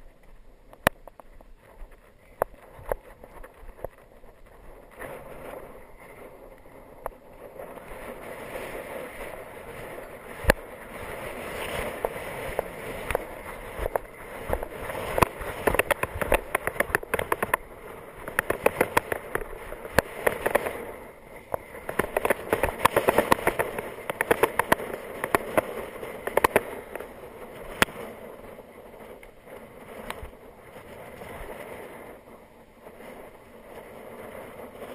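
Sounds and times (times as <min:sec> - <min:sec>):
bike clicks and knocks: 0:00.0 - 0:08.0, 0:09.2 - 0:28.4, 0:29.0 - 0:31.8
wind rushing over microphone: 0:00.0 - 0:34.9.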